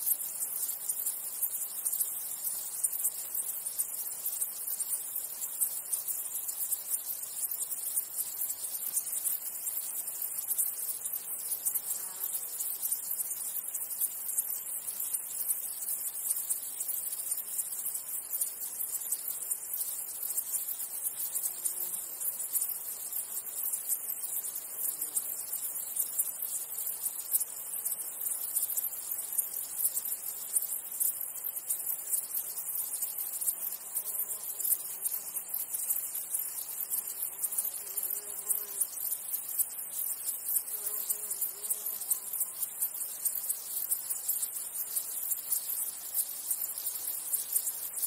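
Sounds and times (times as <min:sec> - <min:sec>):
insect chorus chirring: 0:00.0 - 0:48.0.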